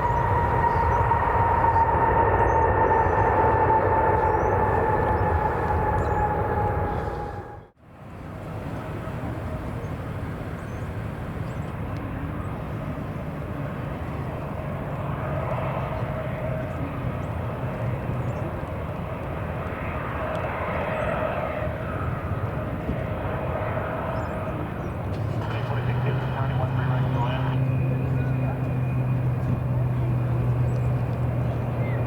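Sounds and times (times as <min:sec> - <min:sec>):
jet airliner engines rumbling: 0:00.0 - 0:32.0.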